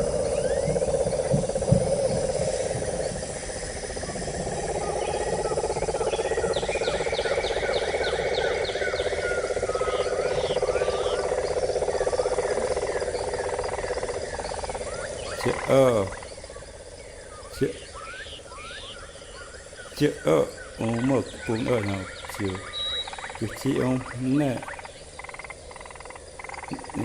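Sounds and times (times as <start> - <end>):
pulsing frog or insect drone: 0.0 - 27.0.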